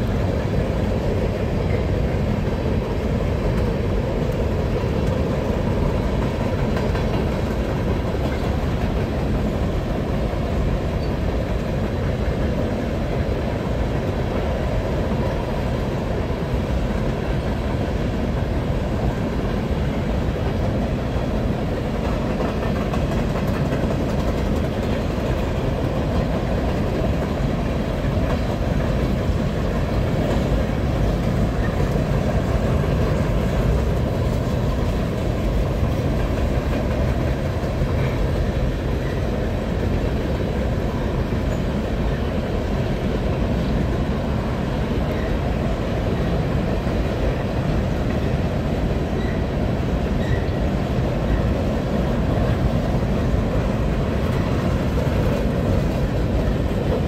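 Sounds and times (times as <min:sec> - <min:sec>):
freight train rolling over steel bridge: 0:00.0 - 0:57.0.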